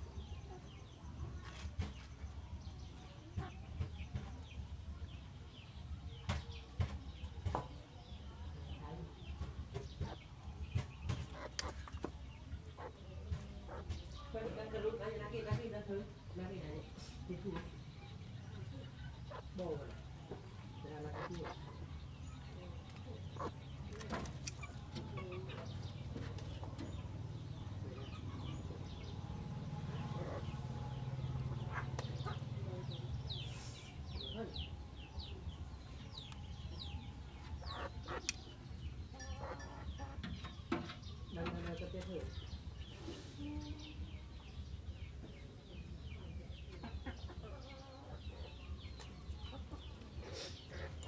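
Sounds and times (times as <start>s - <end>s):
birds chirping: 0.0s - 51.0s
chickens clucking: 0.0s - 51.0s.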